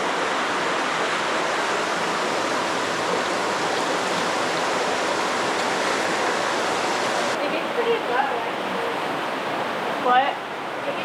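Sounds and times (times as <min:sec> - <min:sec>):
rush of flowing water: 0:00.0 - 0:11.0.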